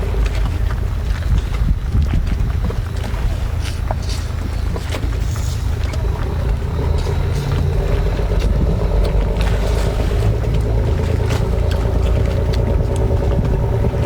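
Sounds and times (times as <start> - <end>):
low motor drone: 0.0 - 14.0
shellfish being sucked and chewed: 0.0 - 14.0.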